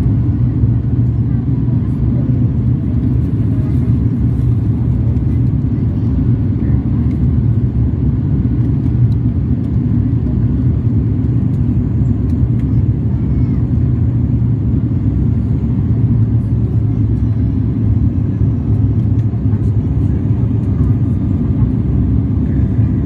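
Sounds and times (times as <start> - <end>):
aircraft cabin engine drone: 0.0 - 23.0.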